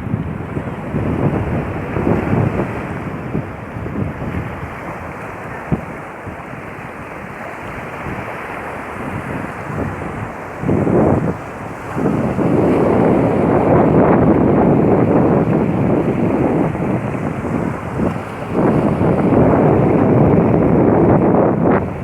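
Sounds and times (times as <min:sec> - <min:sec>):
sea waves washing on beach: 0:00.0 - 0:22.0
wind gusting across microphone: 0:00.0 - 0:22.0.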